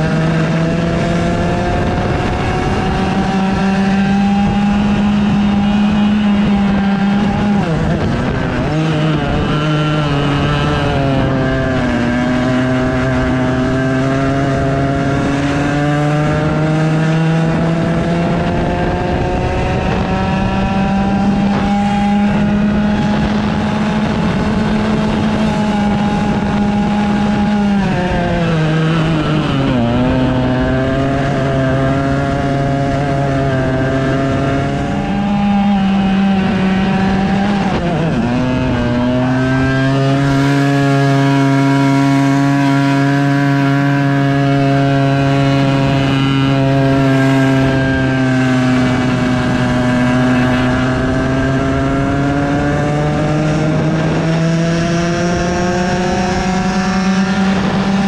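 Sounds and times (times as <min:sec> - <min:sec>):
kart engine under hard throttle: 0:00.0 - 0:58.0.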